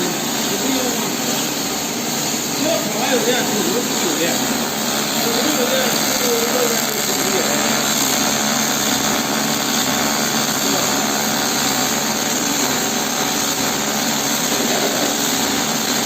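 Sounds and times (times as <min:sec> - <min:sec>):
welding arc hissing: 0:00.0 - 0:16.0.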